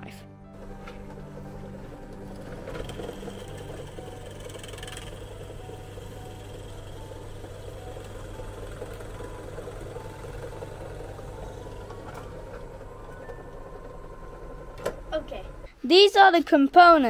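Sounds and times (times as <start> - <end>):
pillar drill humming: 0.6 - 15.7
drill bit boring into wood: 1.1 - 14.8.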